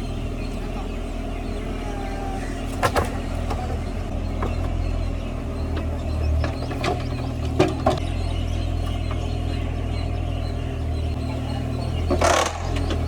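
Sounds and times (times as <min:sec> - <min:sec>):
digger engine running: 0:00.0 - 0:13.0.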